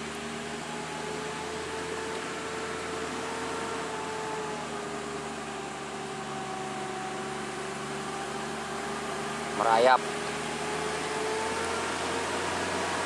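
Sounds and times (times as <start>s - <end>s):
engine whine: 0.0s - 13.0s
truck diesel engine pulling uphill: 0.0s - 13.0s.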